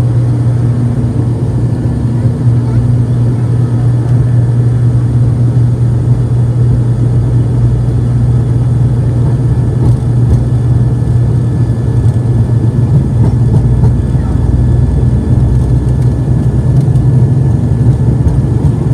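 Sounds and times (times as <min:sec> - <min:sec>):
turboprop engines droning: 0:00.0 - 0:18.9.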